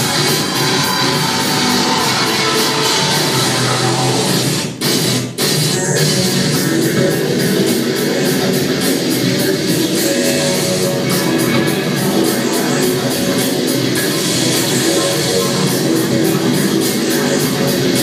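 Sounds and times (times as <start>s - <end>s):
loud rock music: 0.0s - 18.0s.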